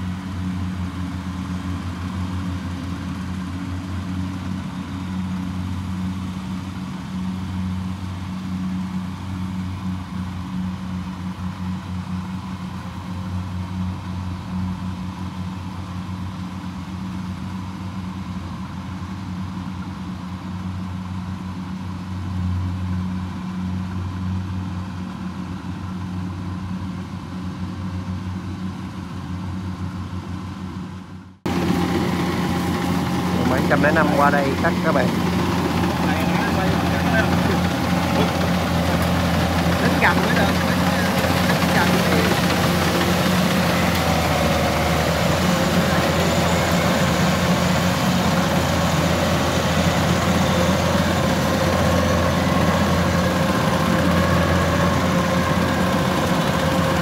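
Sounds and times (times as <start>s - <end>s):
combine harvester engines: 0.0s - 57.0s.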